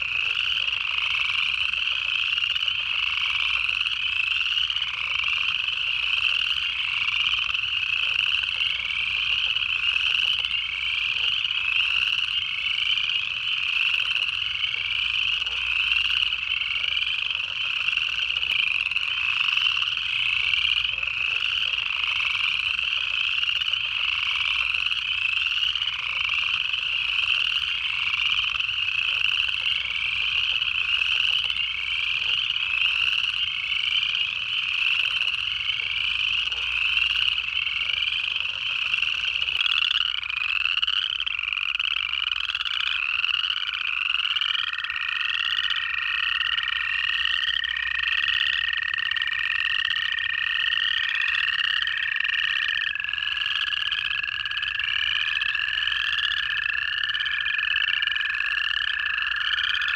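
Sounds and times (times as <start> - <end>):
chorus frogs trilling: 0.0 - 59.9.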